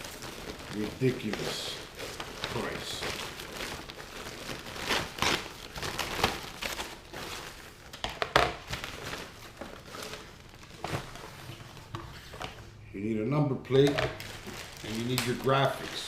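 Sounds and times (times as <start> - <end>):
plastic crinkling and rustling: 0.0 - 12.8, 13.7 - 16.0.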